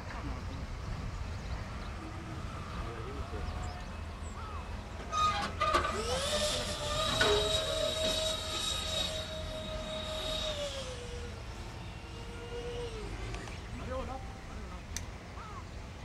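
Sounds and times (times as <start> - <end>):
electric ducted fans whining: 0.0 - 16.0.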